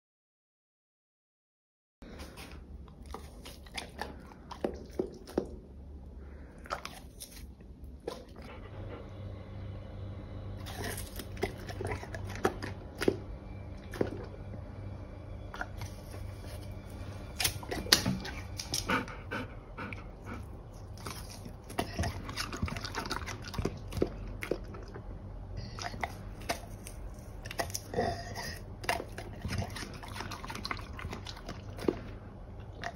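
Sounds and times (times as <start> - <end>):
low steady hum: 2.0 - 32.9
dog crunching pear: 2.1 - 5.8, 6.4 - 8.9, 10.5 - 14.4, 15.5 - 32.9.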